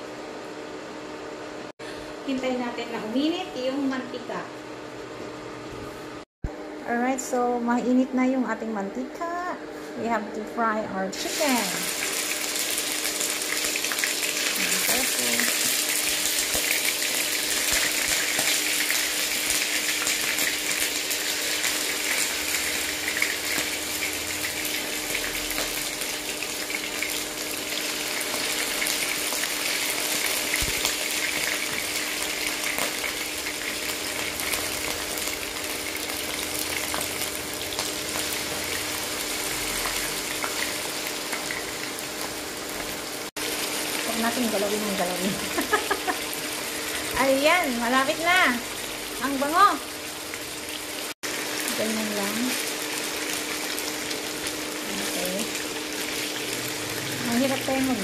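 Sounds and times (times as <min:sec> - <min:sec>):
chicken sizzling in hot oil: 0:11.1 - 0:58.0.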